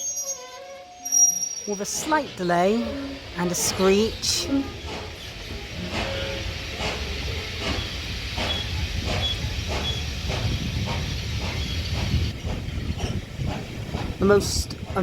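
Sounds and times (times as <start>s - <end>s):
steam hissing: 1.6s - 14.0s
steam locomotive exhaust chuffs: 1.7s - 15.0s.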